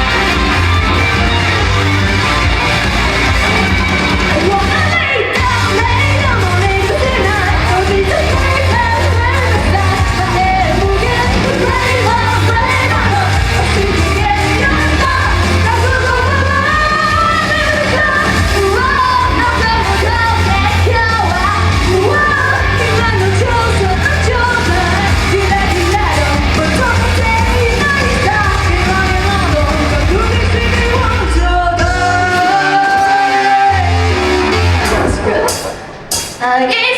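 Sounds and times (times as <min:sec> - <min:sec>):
pop song sung live: 0:00.0 - 0:36.9.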